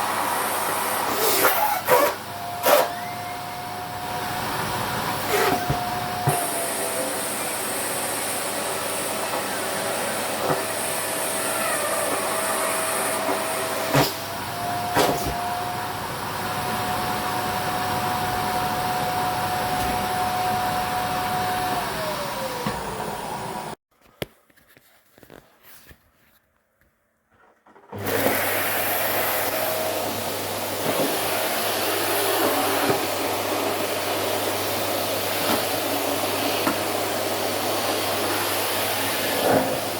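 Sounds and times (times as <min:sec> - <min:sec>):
vacuum cleaner running: 0:00.0 - 0:23.8, 0:27.9 - 0:39.9.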